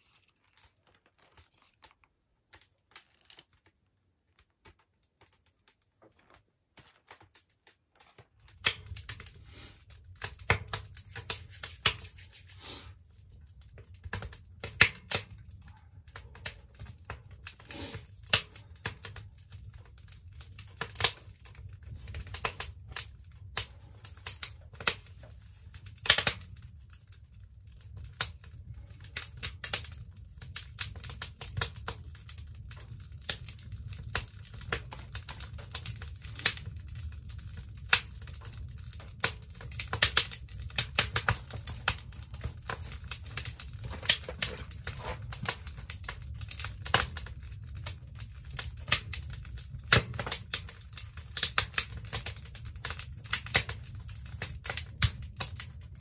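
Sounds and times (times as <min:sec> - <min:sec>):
wood crackling and popping: 0:00.0 - 0:56.0.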